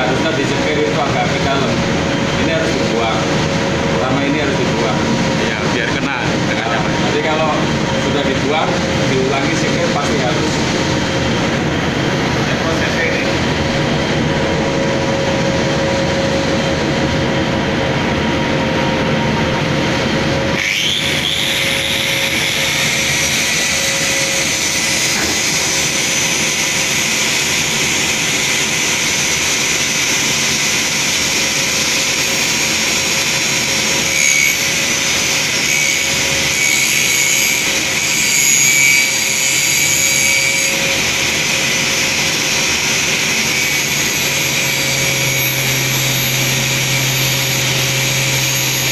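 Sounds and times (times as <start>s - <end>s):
grinder grinding whine: 0.0s - 48.9s
machine hum: 0.0s - 48.9s.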